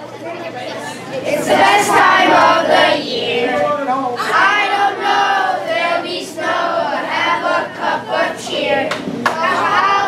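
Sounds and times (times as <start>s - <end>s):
children's choir singing: 1.3s - 10.0s.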